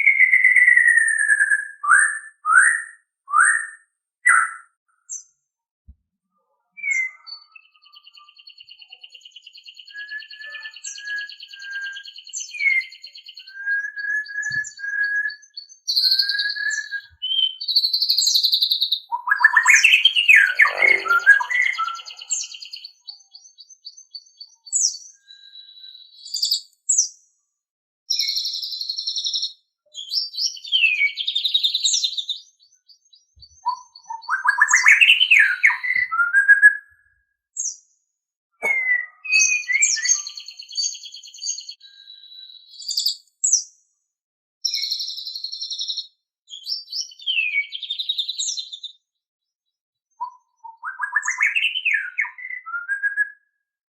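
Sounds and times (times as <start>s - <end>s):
bird singing whistles and trills: 0.0s - 5.3s, 6.6s - 27.2s, 28.1s - 37.8s, 38.6s - 43.8s, 44.6s - 49.0s, 50.1s - 53.7s.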